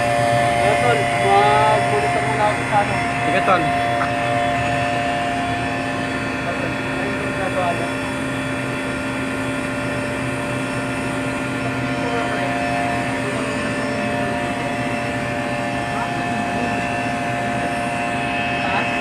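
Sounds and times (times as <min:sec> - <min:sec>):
vacuum pump droning: 0:00.0 - 0:19.0.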